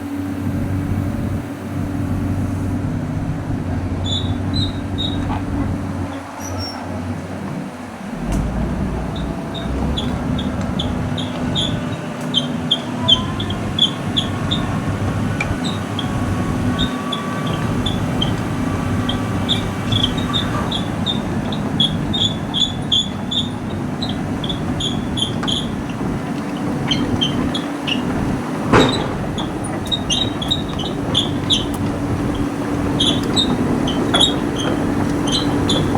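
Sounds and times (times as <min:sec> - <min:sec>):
excavator diesel engine running: 0:00.0 - 0:35.9
steel tracks squeaking and clinking: 0:00.0 - 0:35.9.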